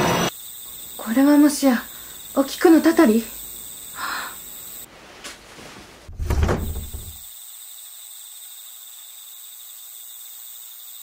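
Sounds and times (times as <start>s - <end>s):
crickets chirring: 0.3s - 4.9s, 6.3s - 11.0s.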